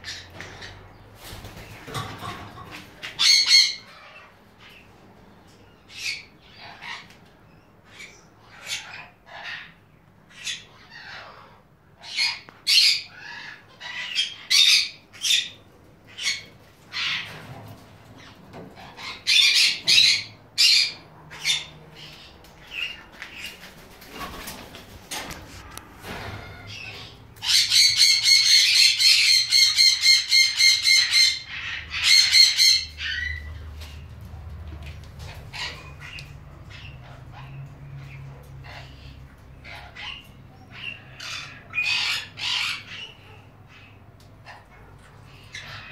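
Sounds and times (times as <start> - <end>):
parrots squawking: 2.0 - 4.8, 5.8 - 7.1, 7.8 - 34.0, 35.2 - 45.9.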